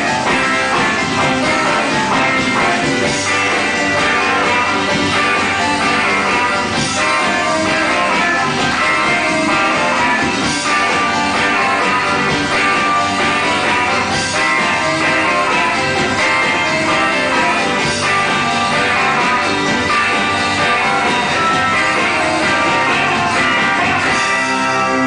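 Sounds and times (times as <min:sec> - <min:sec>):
guitar rock and roll music: 0:00.0 - 0:25.0.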